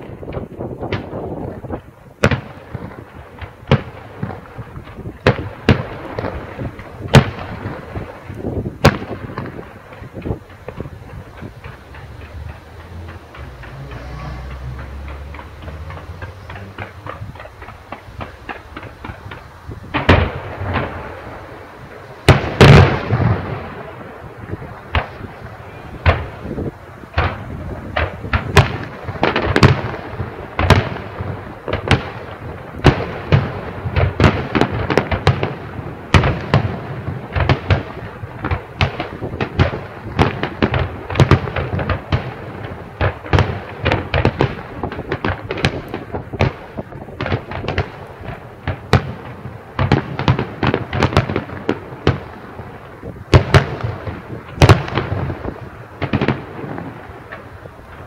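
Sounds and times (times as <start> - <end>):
fireworks bangs and crackles: 0.0 - 58.0
fireworks booms: 0.0 - 58.0.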